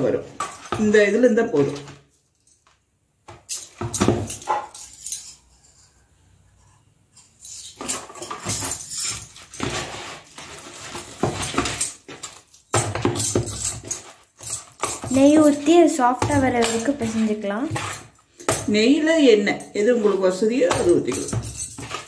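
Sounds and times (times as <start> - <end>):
metal bangles clinking: 0.3 - 6.1, 7.1 - 22.0.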